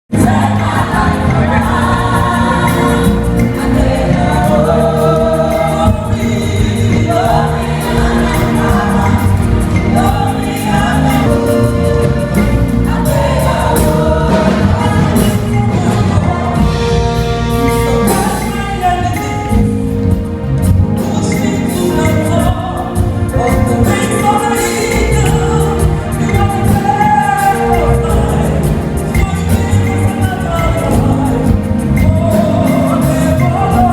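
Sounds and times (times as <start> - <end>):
band with steady beat: 0.1 - 33.9
gospel choir singing: 0.1 - 33.9
low musical accompaniment: 0.1 - 33.9.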